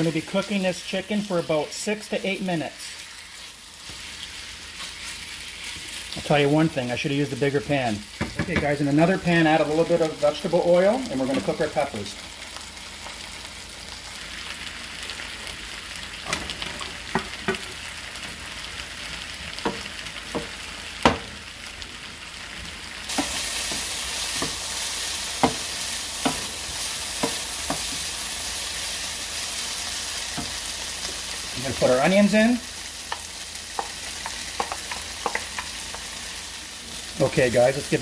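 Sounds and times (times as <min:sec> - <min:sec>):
chicken sizzling in oil: 0:00.0 - 0:38.0.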